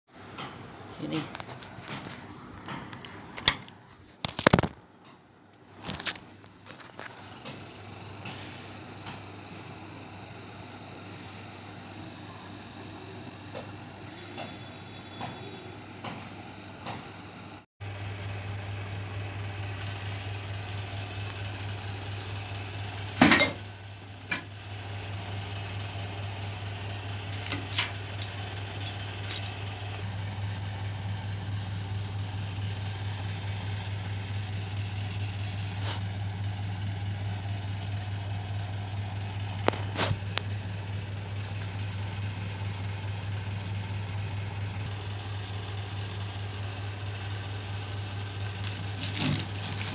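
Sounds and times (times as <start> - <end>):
washing machine motor humming: 6.8 - 49.9.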